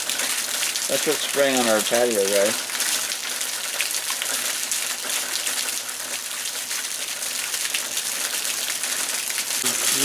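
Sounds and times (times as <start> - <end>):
heavy rain: 0.0 - 10.0
water gushing onto patio: 0.0 - 10.0.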